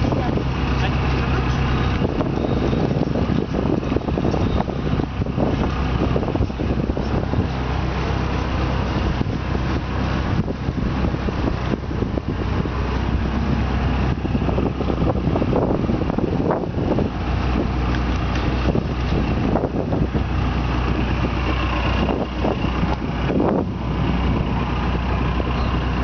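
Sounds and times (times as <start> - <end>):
boat engine droning: 0.0 - 26.0
water rushing: 0.0 - 26.0
wind buffeting microphone: 0.0 - 26.0.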